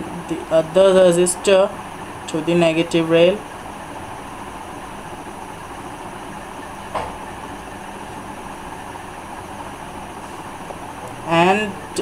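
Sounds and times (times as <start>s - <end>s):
faint low hum: 0.0s - 12.0s
steady background hiss: 0.0s - 12.0s.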